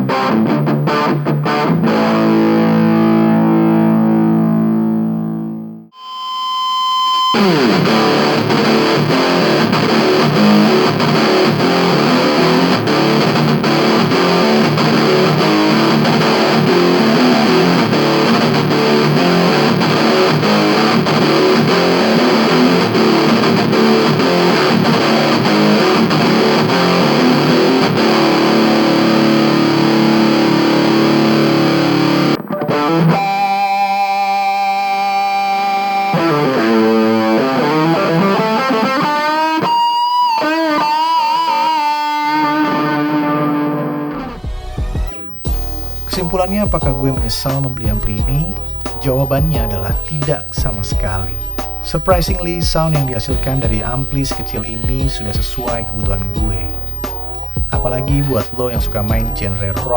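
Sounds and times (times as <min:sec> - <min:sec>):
distorted electric guitar riffing: 0:00.0 - 0:59.9.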